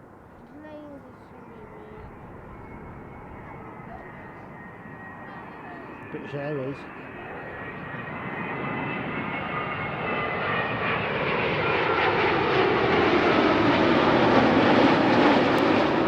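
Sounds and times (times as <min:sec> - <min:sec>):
jet airliner engine: 0:00.0 - 0:16.0.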